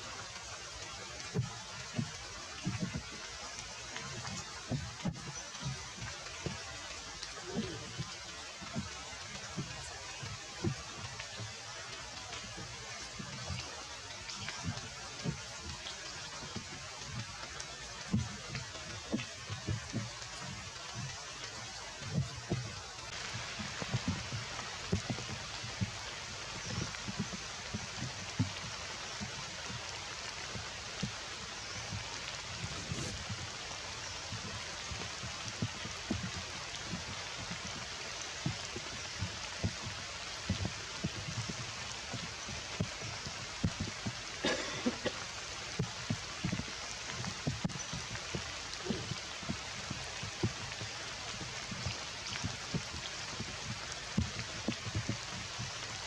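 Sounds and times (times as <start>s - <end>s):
heavy raindrops tapping: 0.0s - 56.0s
steady rain falling: 0.0s - 56.0s.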